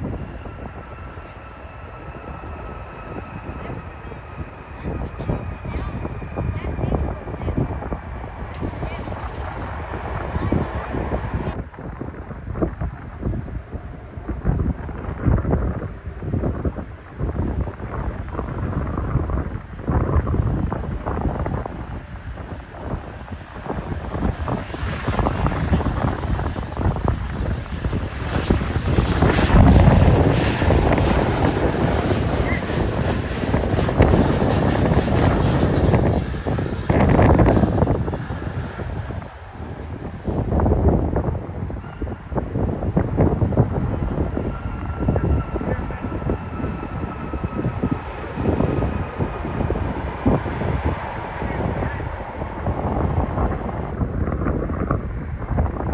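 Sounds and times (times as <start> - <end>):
aircraft engine passing: 0.0 - 55.2
wind buffeting microphone: 0.0 - 55.9.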